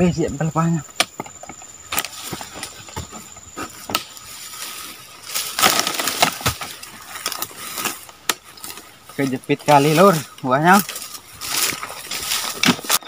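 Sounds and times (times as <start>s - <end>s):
dry palm fronds rustling: 1.0s - 13.0s.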